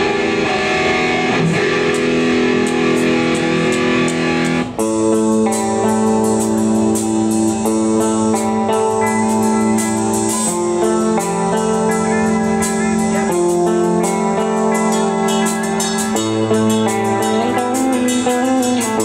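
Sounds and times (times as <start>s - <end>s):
drum and cymbal hits: 0.0s - 19.0s
electric guitars and bass chords: 0.0s - 19.0s.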